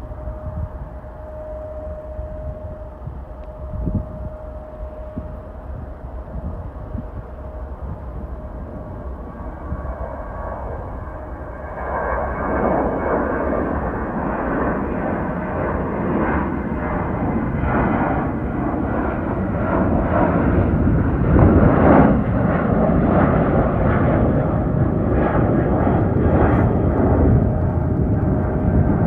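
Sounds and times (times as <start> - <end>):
jet engines rumbling at takeoff: 0.0 - 29.0.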